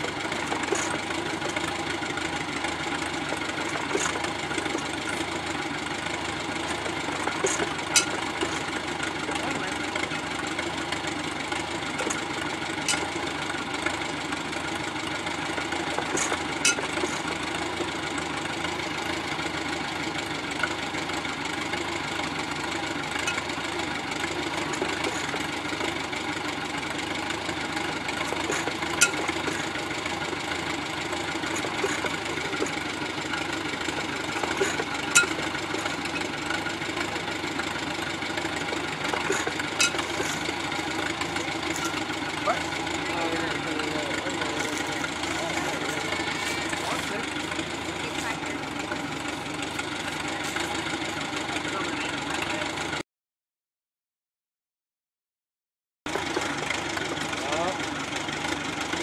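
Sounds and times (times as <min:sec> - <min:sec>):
engine pops: 0:00.0 - 0:21.2, 0:22.4 - 0:51.7, 0:56.1 - 0:59.0
engine running on belt drive: 0:00.0 - 0:53.0, 0:56.1 - 0:59.0.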